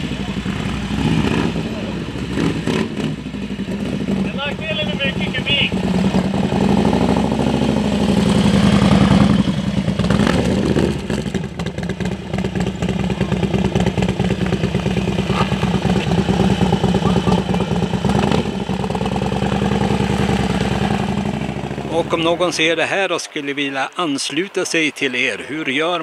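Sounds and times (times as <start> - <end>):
motorcycle engine running: 0.0 - 22.7.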